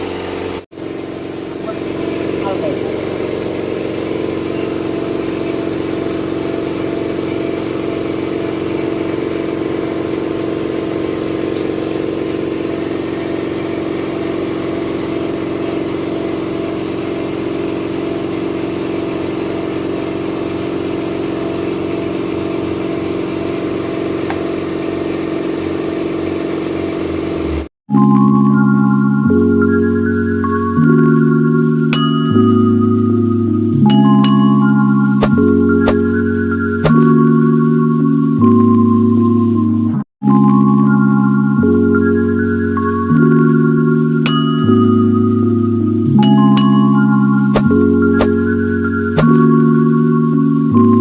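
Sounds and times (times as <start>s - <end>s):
machine hum: 0.0s - 27.7s, 29.2s - 40.0s, 41.6s - 51.0s.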